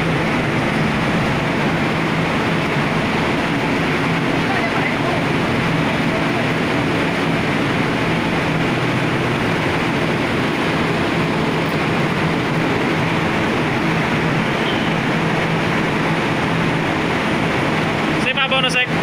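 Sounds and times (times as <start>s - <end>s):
even rushing noise: 0.0s - 19.0s
low machinery hum: 0.0s - 19.0s.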